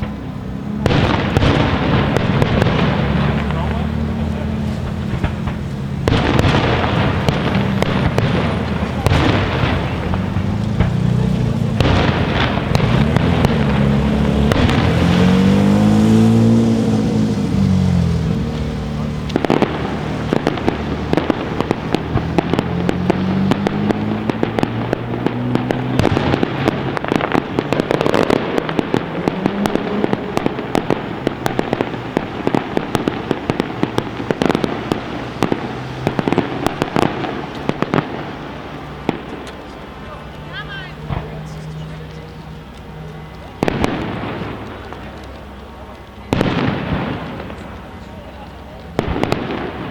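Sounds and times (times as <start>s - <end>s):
fireworks bursts: 0.0s - 49.9s
rapid fireworks cracks and pops: 0.0s - 49.9s.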